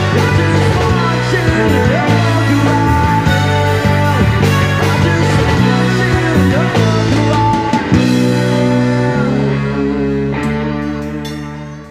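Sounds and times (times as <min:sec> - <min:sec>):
drums and cymbal hits: 0:00.0 - 0:11.9
electric guitar bending notes: 0:00.0 - 0:11.9.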